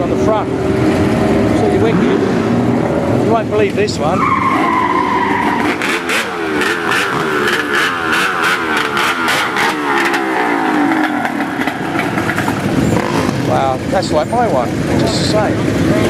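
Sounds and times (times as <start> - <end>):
race engines running: 0.0 - 16.0.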